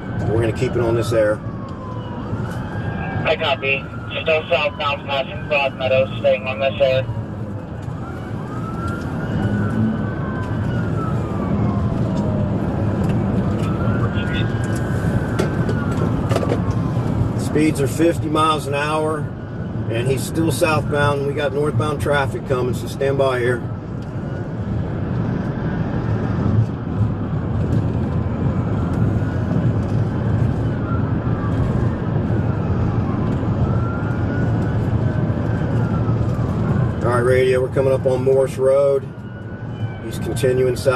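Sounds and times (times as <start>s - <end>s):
engine and road noise: 0.0s - 40.9s
police siren wailing: 0.0s - 40.9s.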